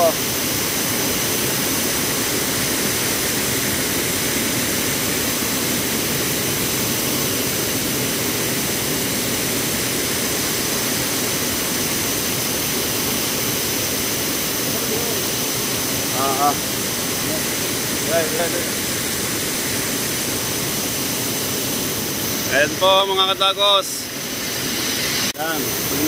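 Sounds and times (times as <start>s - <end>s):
waterfall rushing onto rocks: 0.0s - 26.0s.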